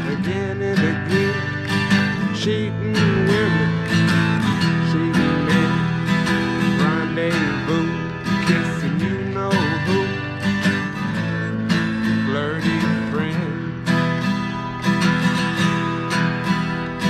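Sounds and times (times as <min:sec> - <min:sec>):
acoustic guitar strummed: 0:00.0 - 0:17.0.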